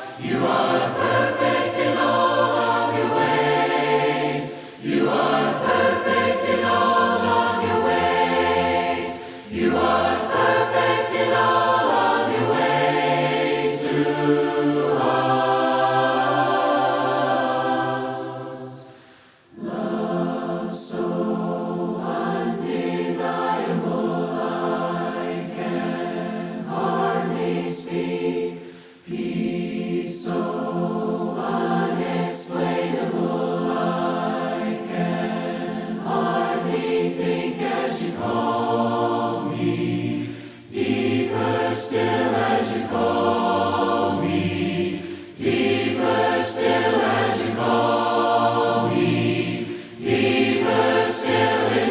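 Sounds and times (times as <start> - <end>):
choir singing a cappella: 0.0 - 51.9.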